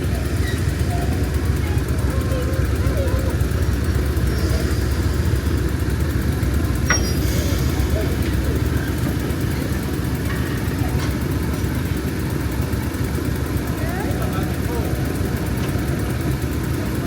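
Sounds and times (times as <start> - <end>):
diesel locomotive engine running: 0.0 - 17.0.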